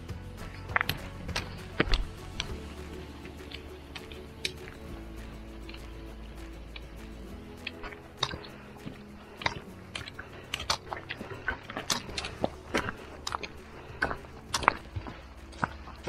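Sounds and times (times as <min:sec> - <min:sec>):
trekking poles clicking on stones: 0:00.0 - 0:16.0
footsteps crunching on gravel: 0:00.4 - 0:16.0.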